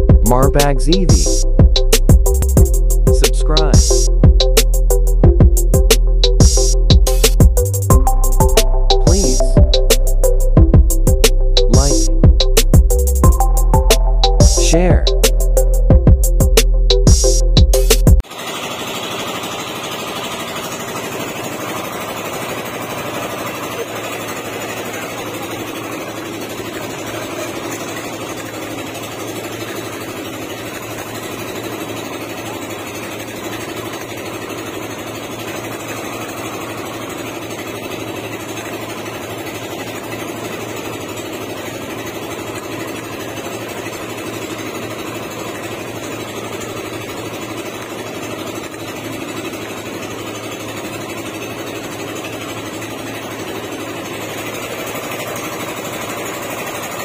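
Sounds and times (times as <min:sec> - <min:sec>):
small boat engine running: 0:00.0 - 0:57.0.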